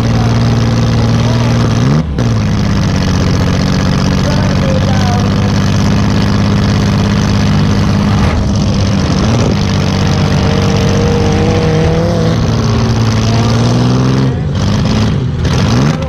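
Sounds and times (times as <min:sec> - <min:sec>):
engine running loud: 0:00.0 - 0:16.0.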